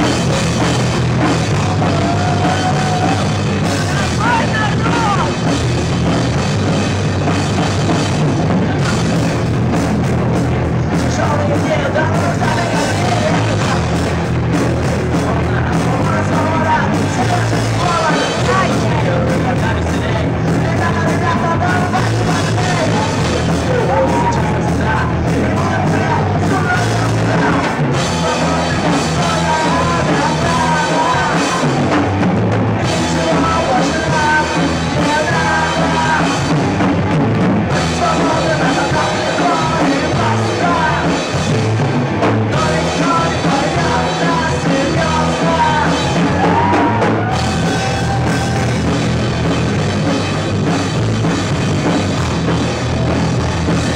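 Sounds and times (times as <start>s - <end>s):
drum kit: 0.0s - 53.9s
live rock band playing: 0.0s - 53.9s.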